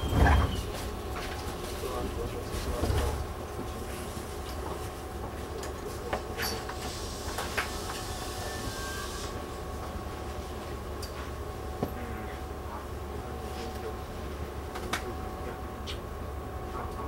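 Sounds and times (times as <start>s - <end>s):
train interior rumble: 0.0s - 17.0s.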